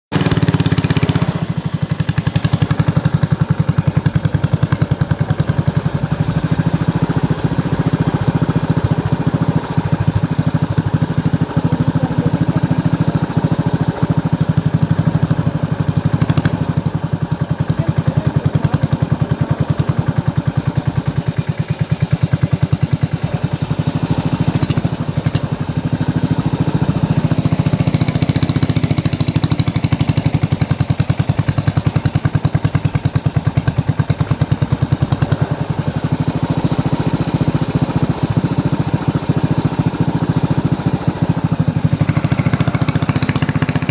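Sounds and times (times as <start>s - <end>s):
outboard engine chugging: 0.1s - 43.9s.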